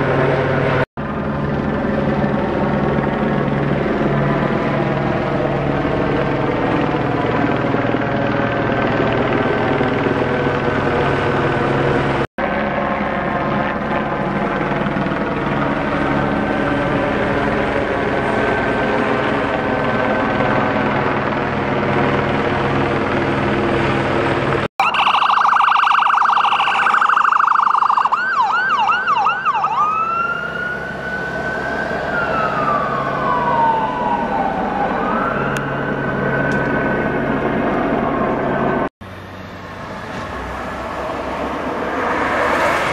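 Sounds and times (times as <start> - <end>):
emergency vehicle siren: 0.0 - 42.9
helicopter drone: 0.0 - 42.9.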